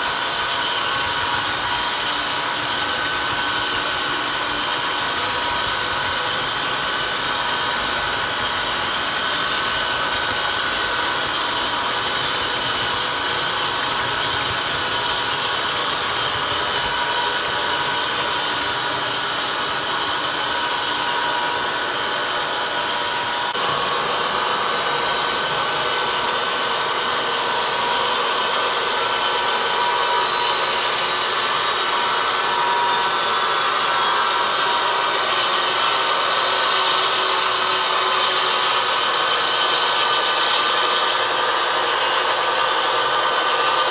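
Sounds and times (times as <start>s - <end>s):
model train wheels on rails: 0.0s - 43.9s.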